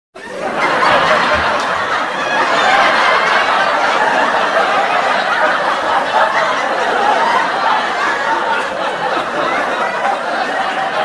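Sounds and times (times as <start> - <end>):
group of people laughing: 0.2 - 11.0.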